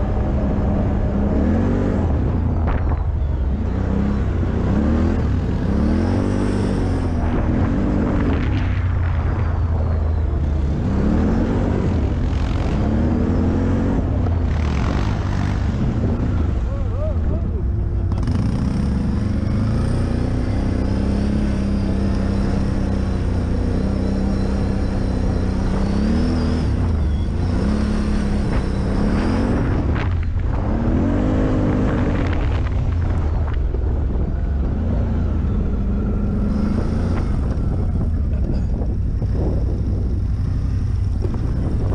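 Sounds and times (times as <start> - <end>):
low rumble: 0.0 - 20.5, 24.6 - 41.9
off-road vehicle engine revving: 0.0 - 41.9.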